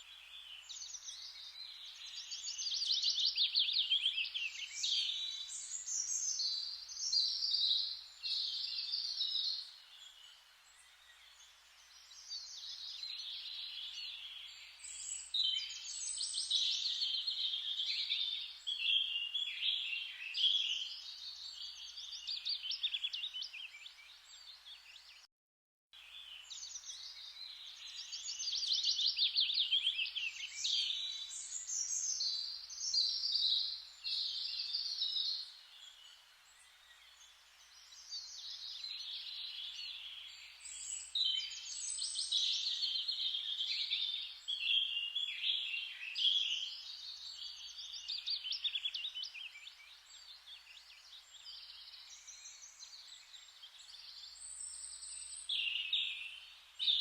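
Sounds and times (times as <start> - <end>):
soft steady hiss: 0.0 - 25.2, 26.0 - 57.0
songbirds chirping and trilling: 0.0 - 25.3, 26.0 - 57.0.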